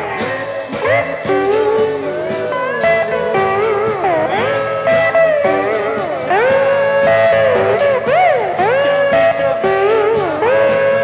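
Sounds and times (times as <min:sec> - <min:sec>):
rock band backing track: 0:00.0 - 0:11.0
slide electric guitar: 0:00.0 - 0:11.0.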